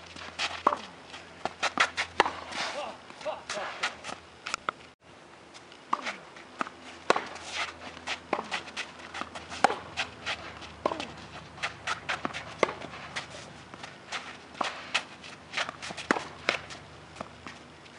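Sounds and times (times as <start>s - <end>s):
footsteps and shoe scuffs on court: 0.0s - 4.8s, 5.5s - 17.9s
tennis ball bouncing: 0.1s - 4.8s, 5.9s - 17.6s
racket striking tennis ball: 0.3s - 4.7s, 5.9s - 17.6s.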